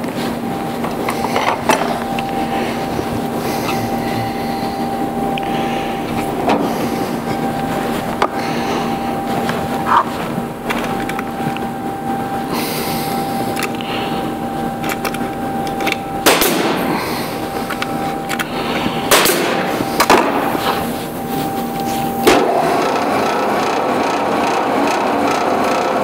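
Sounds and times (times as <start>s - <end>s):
power sander running: 0.0s - 26.0s.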